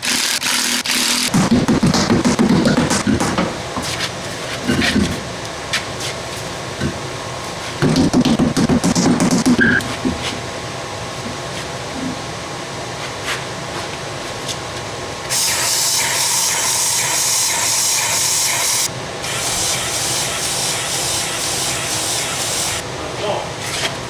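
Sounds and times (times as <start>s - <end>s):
low shop hum: 0.0s - 24.0s.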